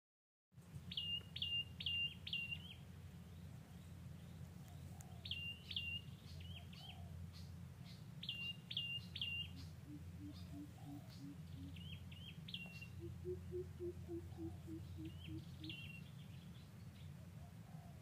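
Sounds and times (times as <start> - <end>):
birds chirping: 0.9 - 18.0.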